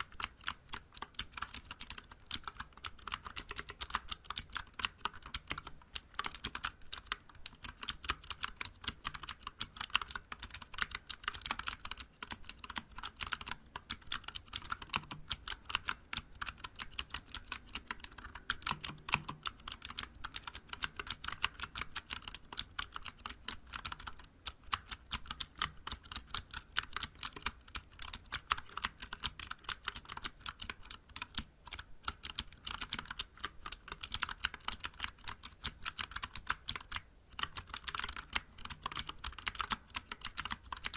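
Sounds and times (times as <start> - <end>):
clicky mechanical keyboard typing: 0.0 - 40.9.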